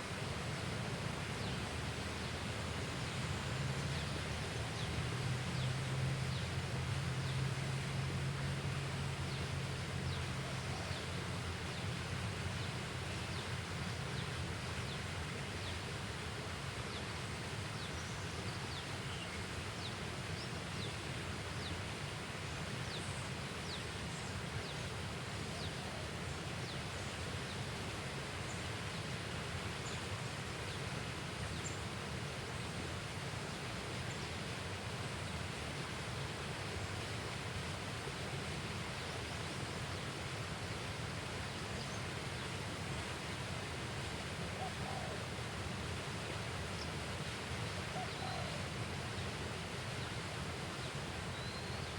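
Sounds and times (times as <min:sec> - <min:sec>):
outdoor background noise: 0:00.0 - 0:51.9.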